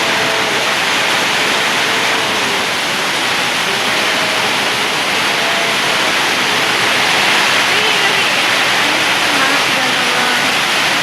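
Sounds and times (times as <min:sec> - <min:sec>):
heavy rain pouring: 0:00.0 - 0:11.0
strong wind: 0:00.0 - 0:11.0.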